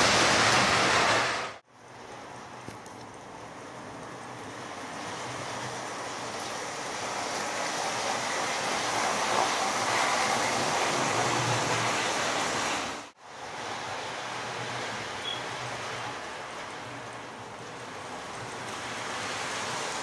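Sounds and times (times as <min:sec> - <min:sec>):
model train rumbling: 0:00.0 - 0:20.0.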